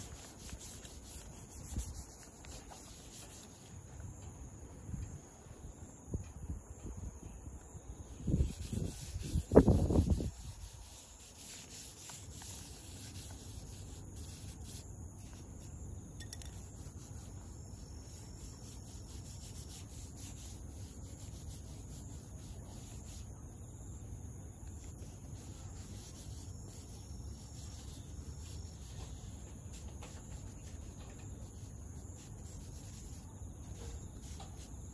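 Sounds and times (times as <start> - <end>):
charcoal rubbing on paper: 0.0 - 3.7, 8.2 - 15.7, 16.5 - 23.3, 24.8 - 34.9
insects buzzing: 0.0 - 34.9.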